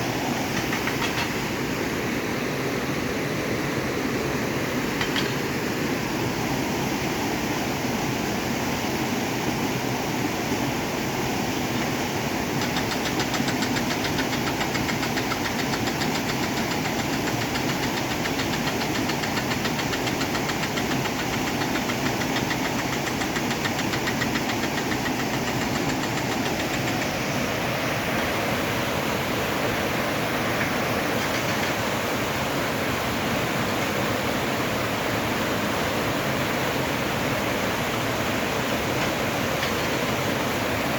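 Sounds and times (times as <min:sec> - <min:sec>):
river water flowing over stones: 0:03.7 - 0:40.9.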